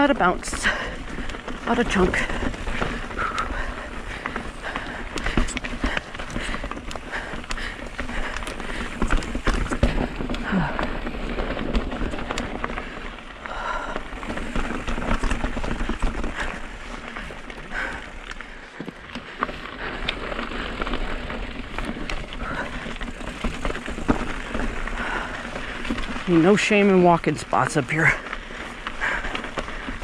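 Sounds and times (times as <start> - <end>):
bike clicking and rattling: 0.0 - 30.0
bike tyres crunching on gravel: 0.0 - 30.0.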